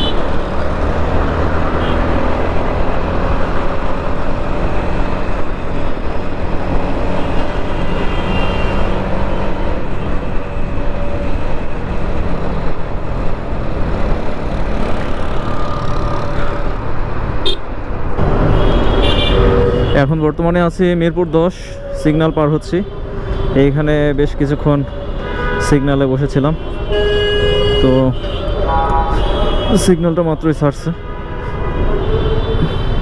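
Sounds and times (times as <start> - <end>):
road and traffic noise: 0.0 - 33.0.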